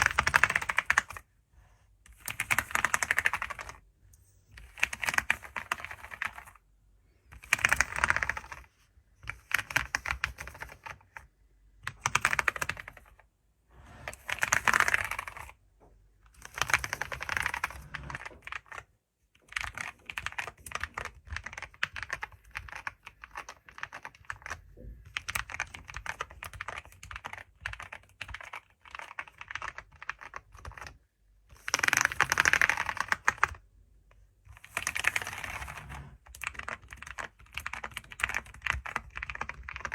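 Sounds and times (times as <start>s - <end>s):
typing on computer keyboard: 0.0s - 1.2s, 2.1s - 3.8s, 4.5s - 13.2s, 14.1s - 15.6s, 16.3s - 33.6s, 34.4s - 39.9s.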